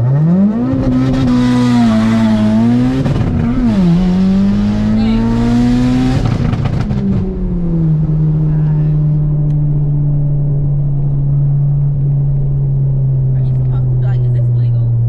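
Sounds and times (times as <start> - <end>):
turbo car engine pulling hard: 0.0 - 15.0.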